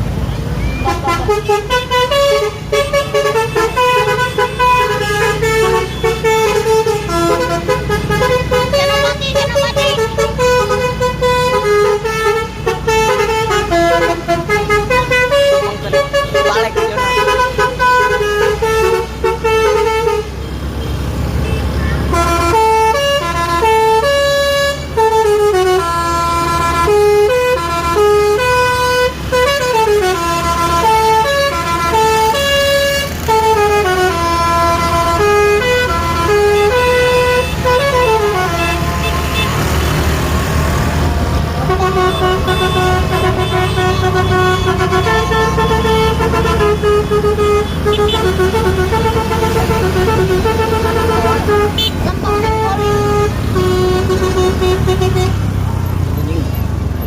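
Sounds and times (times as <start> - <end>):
bus engine running: 0.0 - 57.0
bus multi-tone air horn tune: 0.8 - 55.5.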